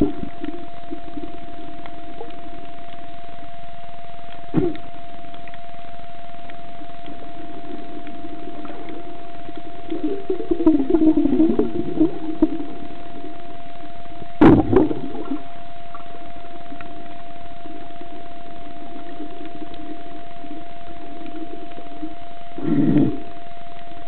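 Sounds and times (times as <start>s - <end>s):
churning water underwater: 0.0s - 24.0s
steady mid-pitched tone: 0.0s - 24.0s.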